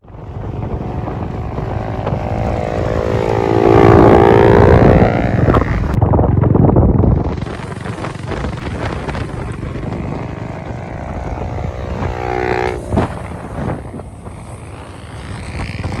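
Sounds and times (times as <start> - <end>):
motorcycle riding: 0.0 - 16.0
road and wind noise: 0.0 - 16.0.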